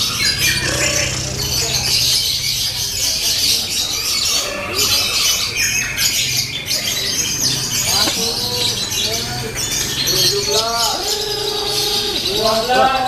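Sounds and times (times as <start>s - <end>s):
birds chattering shrilly: 0.0s - 13.0s.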